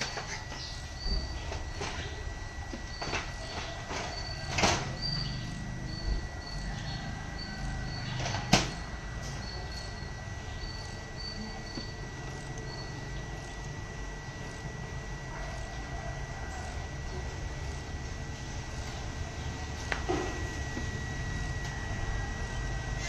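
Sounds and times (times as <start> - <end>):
printer carriage running: 0.0 - 23.0
printer motor hum: 0.0 - 23.0.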